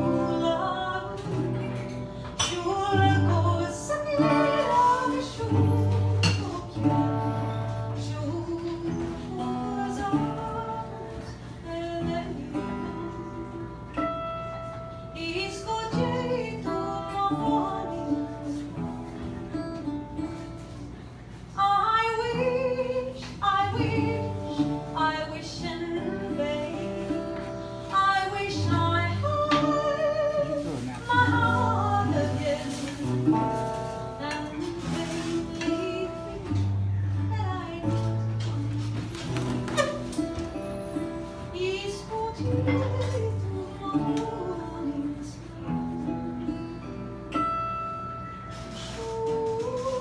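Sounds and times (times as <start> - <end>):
woman singing: 0.0 - 20.5, 21.4 - 46.9, 48.6 - 50.0
plucked acoustic guitar: 0.0 - 50.0.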